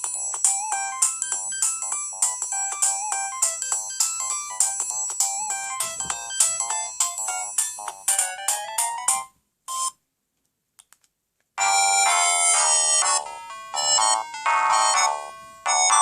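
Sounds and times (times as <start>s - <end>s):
mobile phone ringtone melody: 0.0s - 10.0s, 11.6s - 16.0s.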